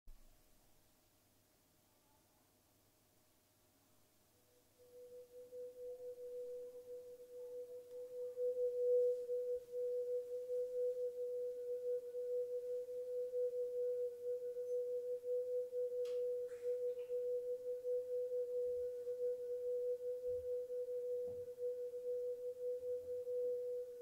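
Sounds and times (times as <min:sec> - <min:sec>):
sustained drone tone: 0:04.5 - 0:24.0.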